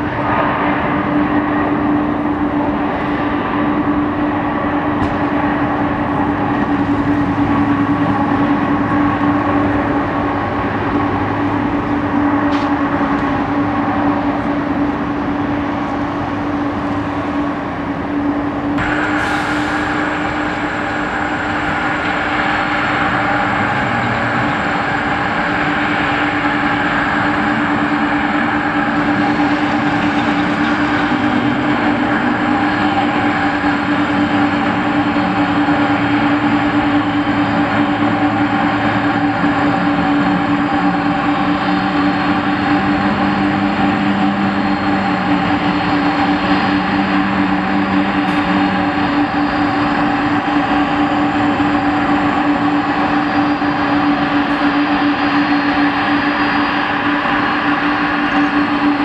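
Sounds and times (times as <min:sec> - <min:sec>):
jet engine rush: 0:00.0 - 0:59.0
jet engines whining: 0:00.0 - 0:59.0.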